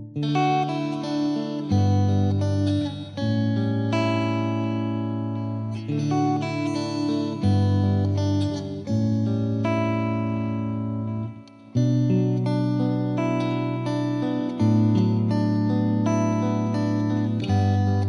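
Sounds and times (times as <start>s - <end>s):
plucked guitar background music: 0.0s - 18.0s.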